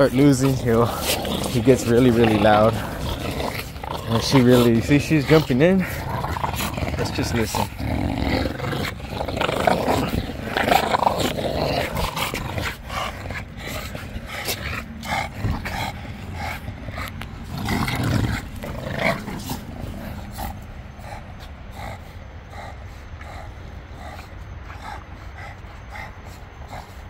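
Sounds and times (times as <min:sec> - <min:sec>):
dogs growling: 0:00.0 - 0:27.0.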